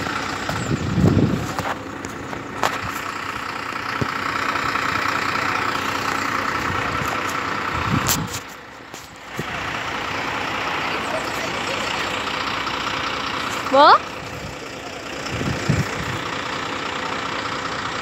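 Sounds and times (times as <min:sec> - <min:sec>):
fire engine idling: 0:00.0 - 0:18.0.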